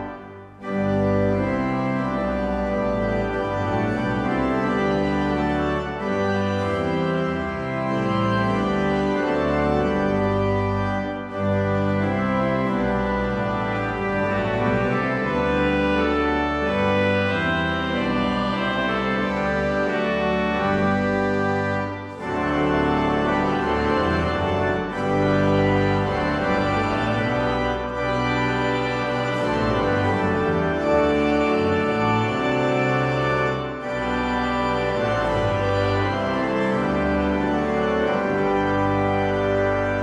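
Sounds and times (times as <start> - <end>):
church organ playing a hymn: 0.0 - 40.0.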